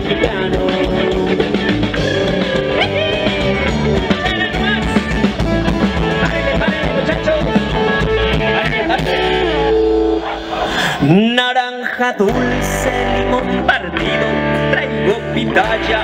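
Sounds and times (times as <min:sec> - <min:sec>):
live band instrumental: 0:00.0 - 0:16.0.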